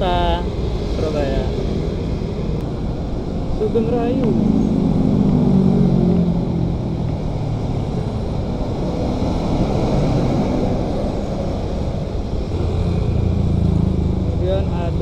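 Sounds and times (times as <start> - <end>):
coach engine and tyres rumbling: 0.0 - 15.0
road traffic rumbling: 0.0 - 15.0
vehicle engine drone: 0.0 - 15.0.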